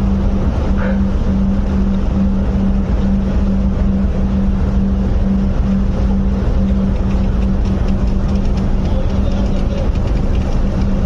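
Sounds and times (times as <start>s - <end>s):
ship machinery low rumble: 0.0s - 11.0s
steady machinery hum: 0.0s - 11.0s.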